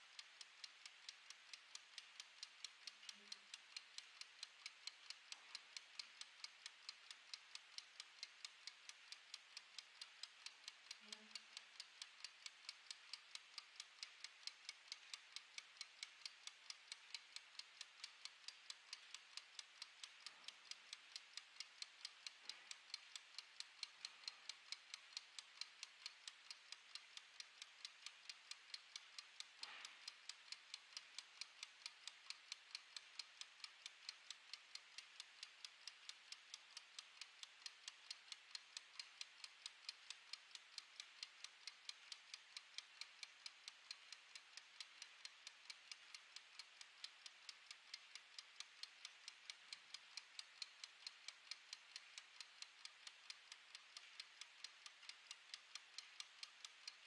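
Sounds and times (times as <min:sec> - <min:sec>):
kitchen timer ticking: 0:00.0 - 0:57.0.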